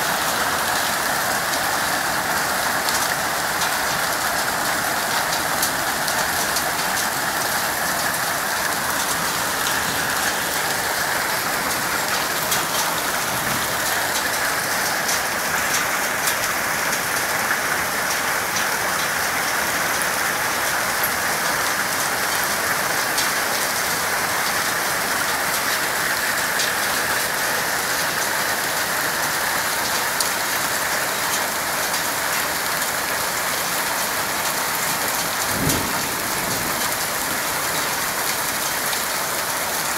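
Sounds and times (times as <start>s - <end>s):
rain and hail falling: 0.0s - 39.9s.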